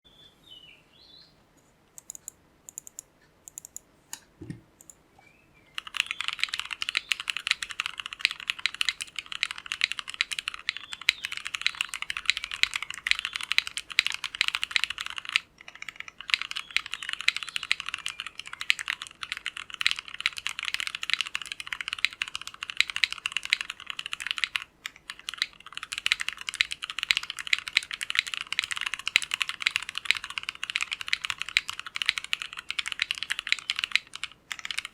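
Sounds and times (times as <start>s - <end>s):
mechanical keyboard typing: 2.0s - 3.8s, 5.8s - 34.9s.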